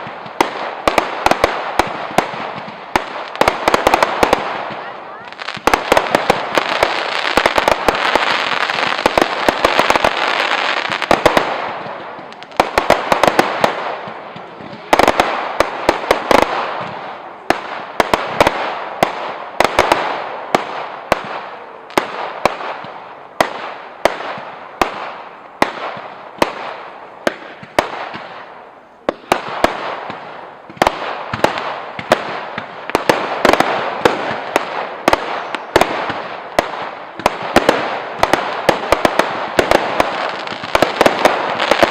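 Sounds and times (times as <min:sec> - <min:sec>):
firework bangs: 0:00.0 - 0:41.9
firework crackle: 0:00.0 - 0:41.9.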